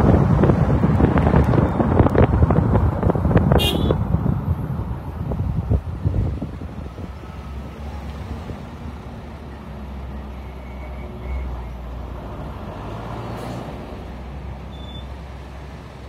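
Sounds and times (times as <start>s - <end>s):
vehicle driving on road: 0.0s - 16.0s.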